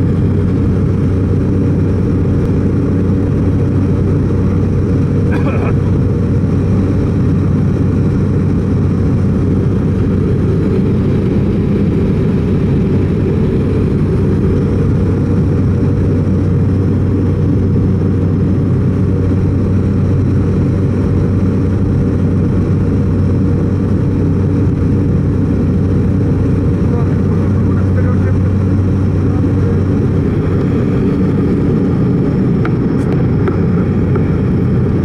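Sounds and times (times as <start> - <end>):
plane engine and propeller drone: 0.0 - 35.0.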